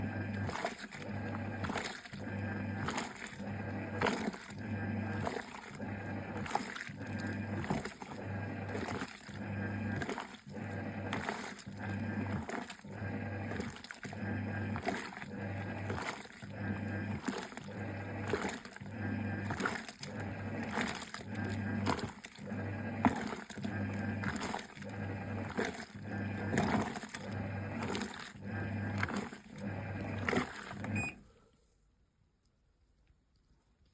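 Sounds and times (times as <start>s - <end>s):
wash water churning: 0.0s - 31.1s
washing machine motor humming: 0.0s - 31.3s.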